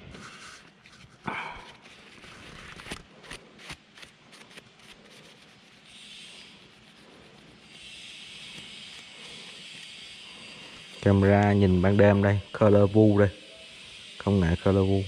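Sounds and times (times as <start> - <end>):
cloth wiping plastic: 0.0 - 12.3.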